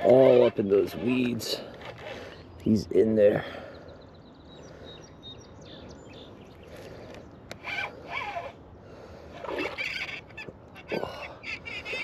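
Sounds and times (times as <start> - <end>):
bird calls: 0.0 - 8.6, 9.3 - 12.0.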